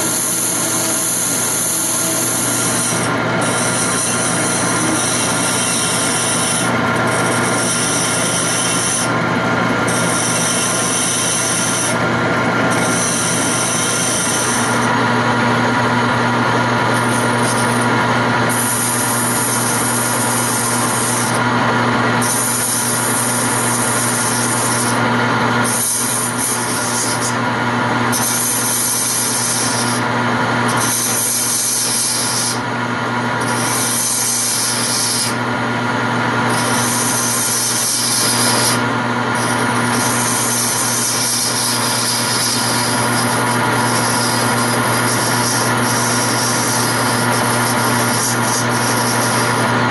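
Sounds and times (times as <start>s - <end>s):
lathe motor hum: 0.0s - 49.9s
tool cutting spinning wood: 0.0s - 49.9s.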